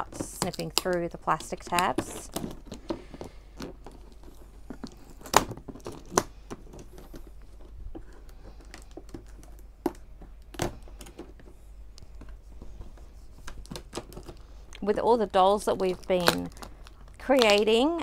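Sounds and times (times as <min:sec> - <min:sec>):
plastic crinkling: 0:00.0 - 0:18.0.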